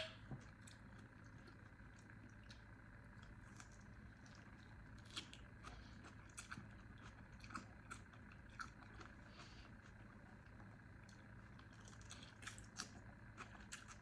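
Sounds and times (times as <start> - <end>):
faint room hum: 0.0 - 14.0
person chewing noodles: 0.6 - 14.0.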